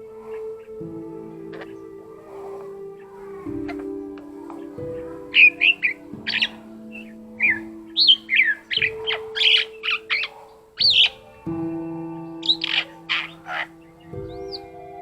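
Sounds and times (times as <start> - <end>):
background music of held chords: 0.0 - 15.0
starling singing: 0.0 - 15.0.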